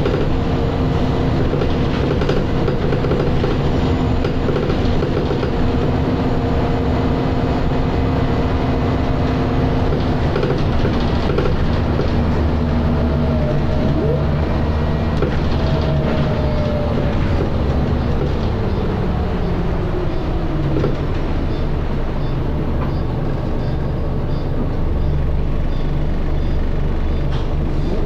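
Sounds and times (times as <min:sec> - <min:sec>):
bus engine rumble: 0:00.0 - 0:28.0
gearbox whine: 0:00.0 - 0:28.0.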